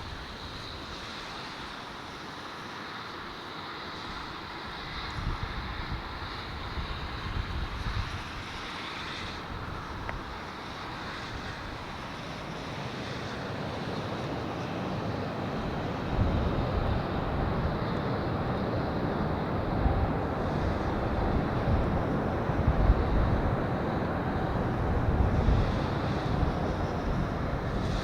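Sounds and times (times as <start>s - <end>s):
jet engines rushing: 0.0s - 28.0s
wind buffeting microphone: 4.8s - 28.0s.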